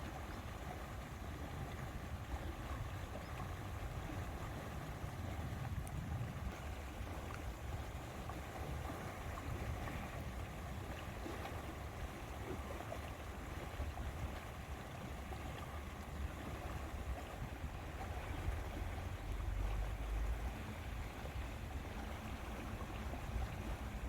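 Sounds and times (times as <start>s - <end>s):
wind and water wash: 0.0s - 24.0s
wind rumble on microphone: 0.0s - 24.0s.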